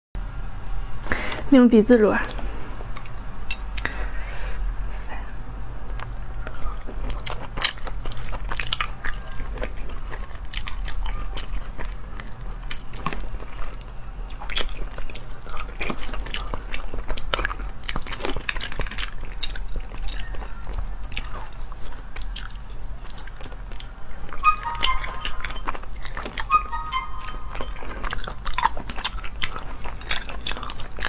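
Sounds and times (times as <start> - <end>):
wet chewing: 2.3 - 4.2, 5.8 - 31.0.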